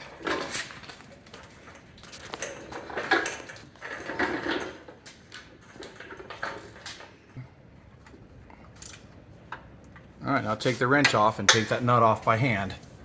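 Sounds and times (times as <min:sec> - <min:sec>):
wrench clinking and scraping on metal: 0:00.0 - 0:07.1, 0:08.6 - 0:10.0, 0:10.6 - 0:13.0.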